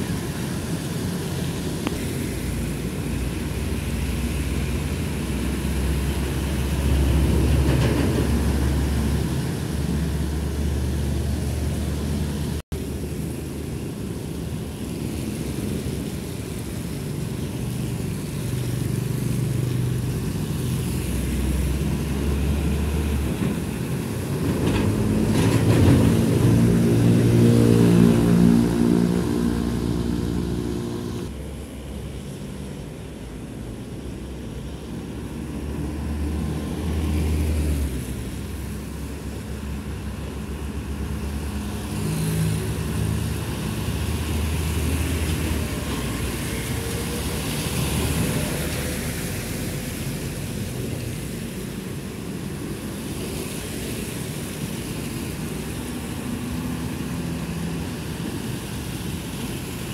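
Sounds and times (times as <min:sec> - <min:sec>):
car engines: 0:00.0 - 0:59.9
motorbike engines: 0:00.0 - 0:59.9
truck engines: 0:00.0 - 0:59.9.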